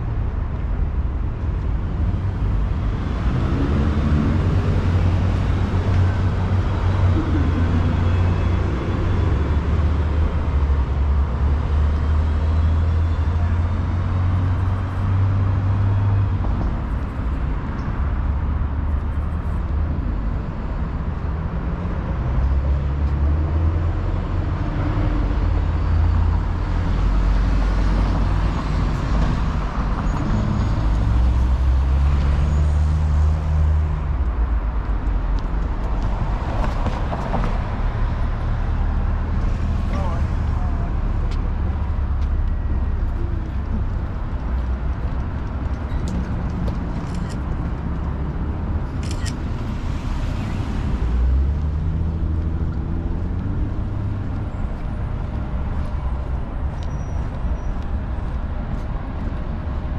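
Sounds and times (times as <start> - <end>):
passing cars and buses rumbling: 0.0 - 59.9
urban background noise: 0.0 - 59.9.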